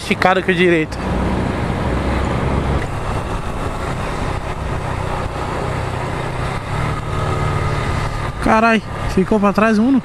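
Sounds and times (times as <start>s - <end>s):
motorcycle engine running: 1.0s - 10.0s.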